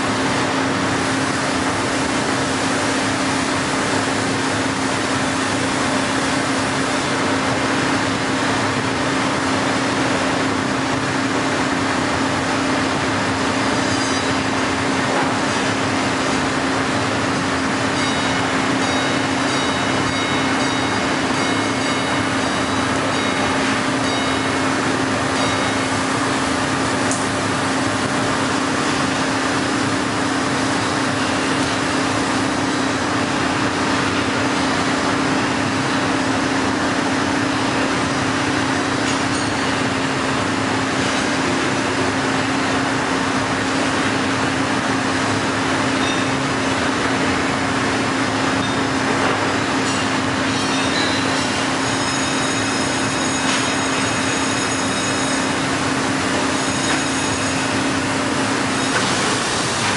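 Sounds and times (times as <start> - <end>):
plate rolling machine humming: 0.0 - 59.9.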